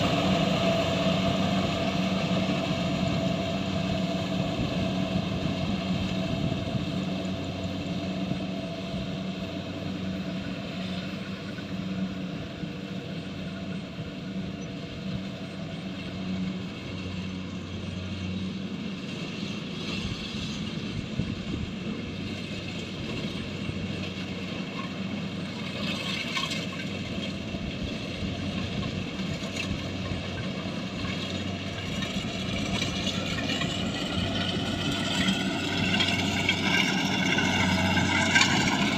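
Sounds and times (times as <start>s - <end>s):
harvesting machine engine running: 0.0s - 38.9s.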